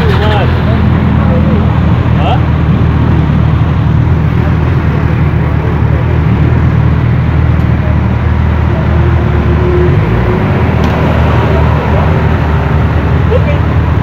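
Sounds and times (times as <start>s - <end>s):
motorcycle engines idling: 0.0s - 14.0s.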